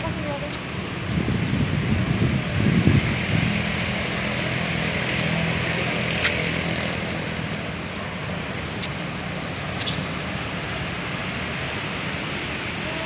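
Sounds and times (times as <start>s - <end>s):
low engine hum: 0.0s - 13.0s
outdoor background noise: 0.0s - 13.0s.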